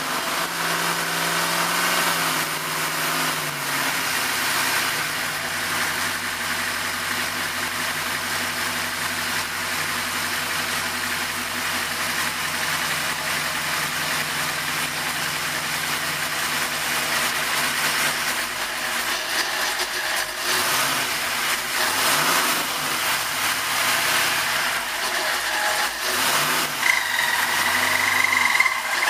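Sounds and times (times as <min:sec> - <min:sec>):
engine revving: 0:00.0 - 0:09.6, 0:12.2 - 0:29.0
engine idling: 0:00.0 - 0:29.0.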